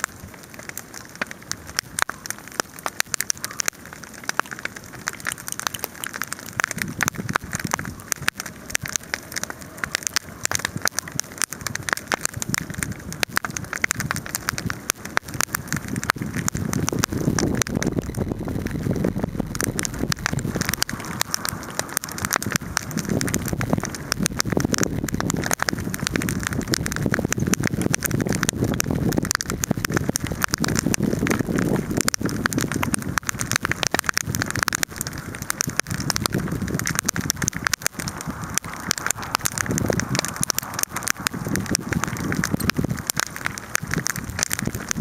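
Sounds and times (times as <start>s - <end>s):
low rush of fire: 0.0s - 45.0s
wood fire crackling and popping: 0.0s - 45.0s.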